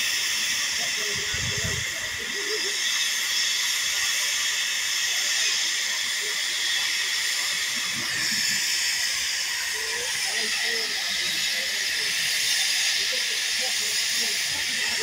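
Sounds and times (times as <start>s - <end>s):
steam hissing from safety valves: 0.0s - 15.0s.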